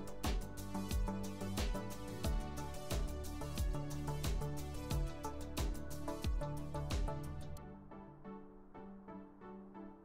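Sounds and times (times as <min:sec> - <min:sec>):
instrumental music with steady beat: 0:00.0 - 0:08.1.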